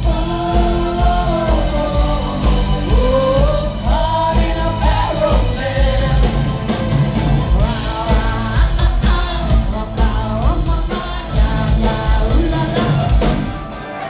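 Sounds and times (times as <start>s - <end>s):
lead vocalist singing: 0.0s - 14.0s
live rock band playing: 0.0s - 14.0s.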